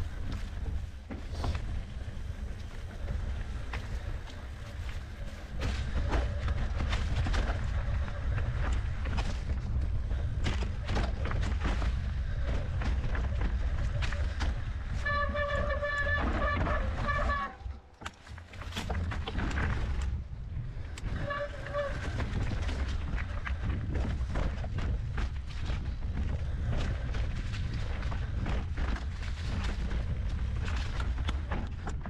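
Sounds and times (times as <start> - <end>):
mountain bike rattling over rocks: 0.0 - 32.0
wind rumbling on microphone: 0.0 - 32.0.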